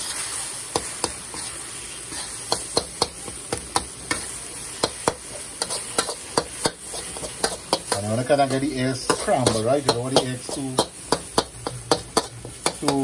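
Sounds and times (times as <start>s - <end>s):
food sizzling in a pan: 0.0s - 13.0s
metal spatula scraping a wok: 0.0s - 13.0s.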